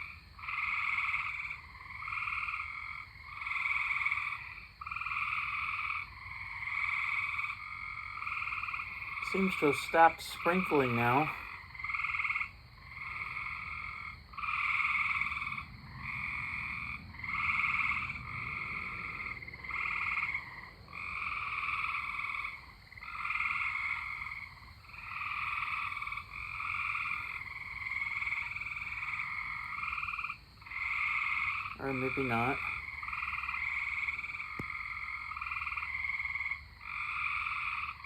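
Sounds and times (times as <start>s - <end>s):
tree frogs trilling: 0.0s - 38.0s.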